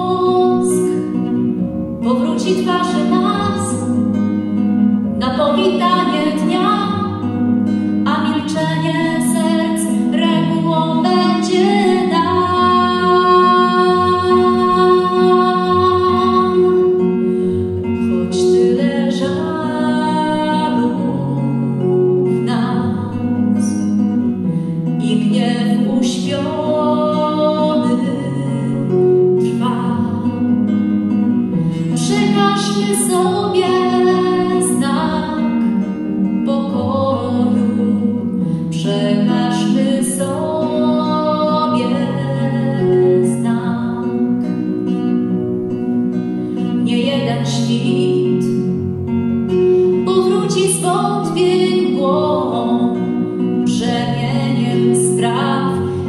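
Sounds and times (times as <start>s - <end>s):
woman singing: 0.0s - 1.4s, 2.0s - 4.1s, 5.1s - 7.4s, 8.0s - 24.0s, 24.8s - 30.5s, 31.7s - 44.5s, 46.6s - 48.8s, 49.9s - 56.0s
plucked classical guitar: 0.0s - 56.0s.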